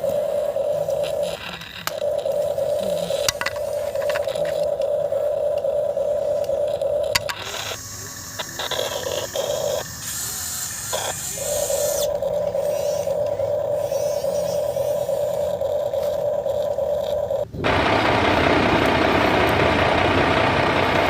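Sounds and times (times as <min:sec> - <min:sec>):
hiss: 0:00.0 - 0:17.8
high motor whine: 0:00.0 - 0:21.0.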